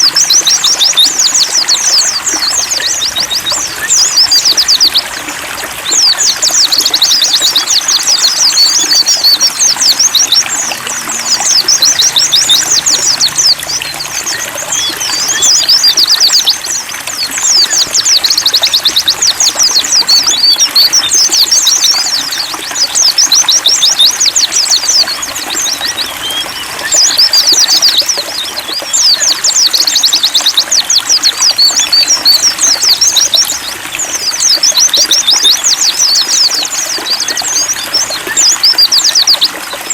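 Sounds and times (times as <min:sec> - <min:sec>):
birds twittering: 0:00.0 - 0:39.9
water trickling: 0:00.0 - 0:39.9.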